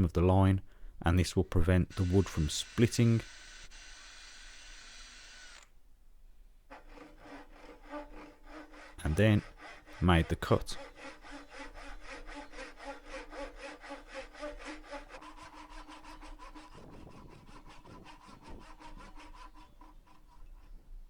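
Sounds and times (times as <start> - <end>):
hand saw cutting wood: 1.6 - 5.7, 6.7 - 20.8.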